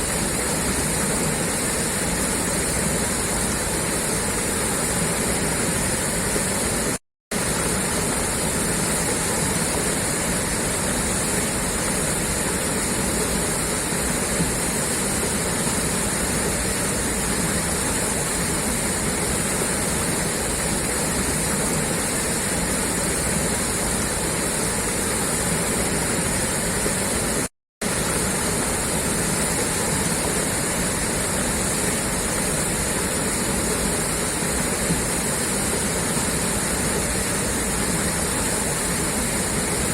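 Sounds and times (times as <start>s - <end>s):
water gushing from a pipe: 0.0s - 39.9s.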